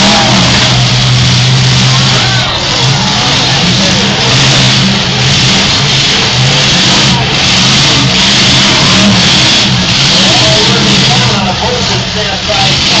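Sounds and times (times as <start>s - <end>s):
car engines revving loudly: 0.0s - 13.0s.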